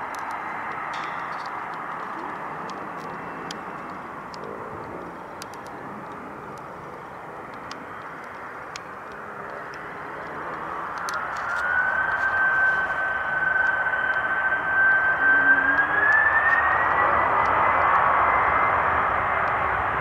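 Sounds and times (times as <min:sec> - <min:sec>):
high engine whine: 0:00.0 - 0:20.0
jet engines rumbling: 0:00.0 - 0:20.0.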